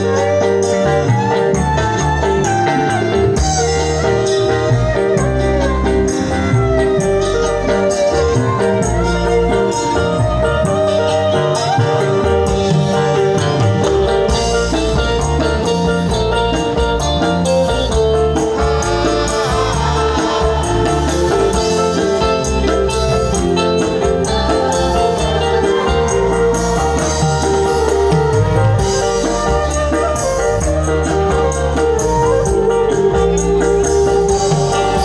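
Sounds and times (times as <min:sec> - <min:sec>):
live band music over loudspeakers: 0:00.0 - 0:35.0.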